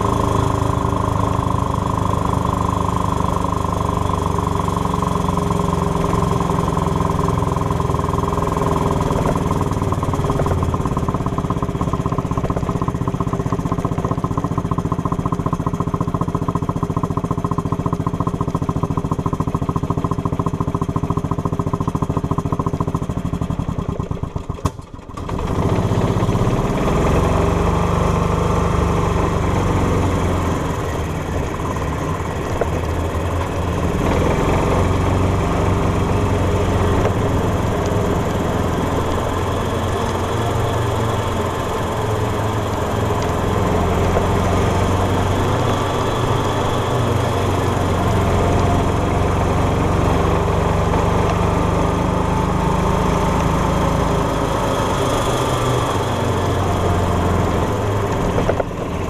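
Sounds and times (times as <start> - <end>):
golf cart engine running: 0.0 - 59.0.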